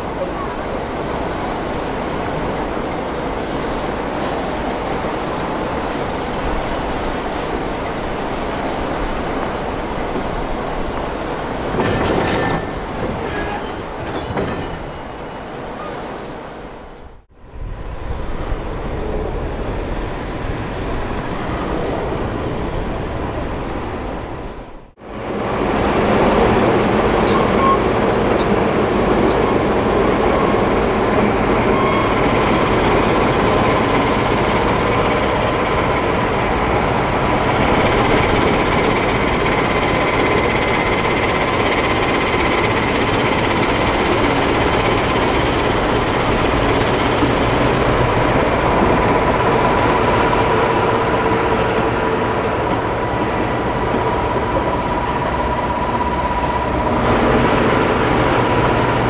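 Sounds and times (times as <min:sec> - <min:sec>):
diesel locomotive engine: 0:00.0 - 0:59.0.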